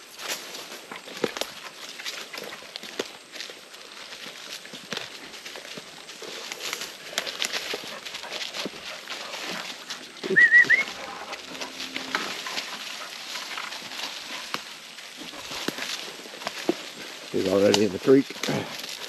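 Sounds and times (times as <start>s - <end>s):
footsteps crunching through dry leaves: 0.0s - 19.0s.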